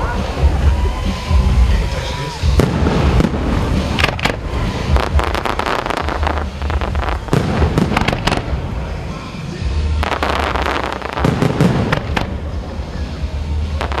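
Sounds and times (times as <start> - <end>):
continuous low rumble: 0.0 - 14.0
fireworks bangs and crackles: 0.0 - 14.0.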